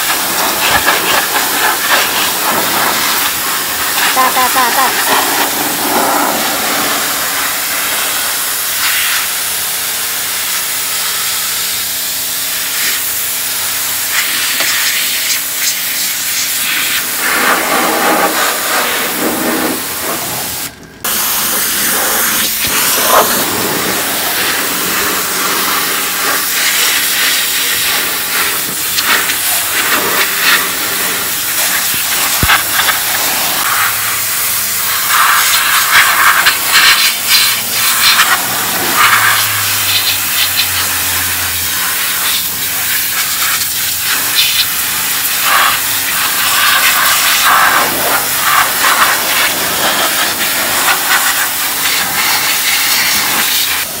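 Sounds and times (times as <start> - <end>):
pressure washer spraying metal: 0.0 - 54.0.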